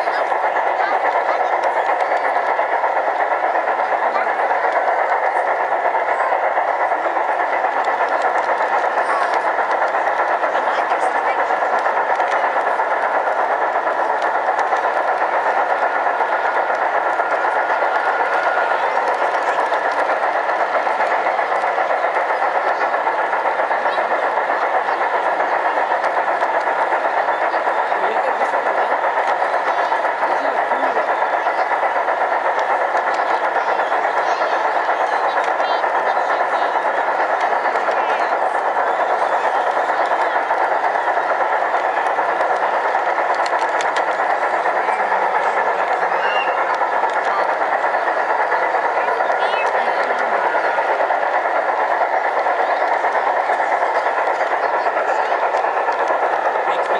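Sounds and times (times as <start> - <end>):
crowded hall din: 0.0 - 56.9
model train rattling on rails: 0.0 - 56.9.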